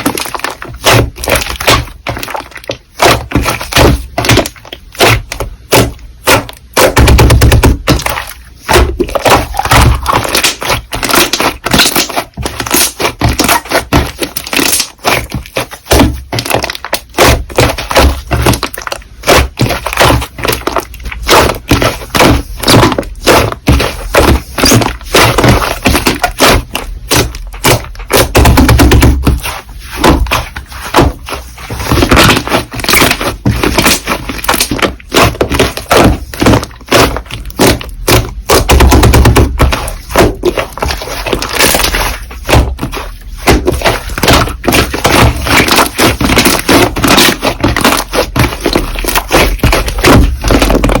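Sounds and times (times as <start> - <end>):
slime crackling and popping: 0.0 - 51.0.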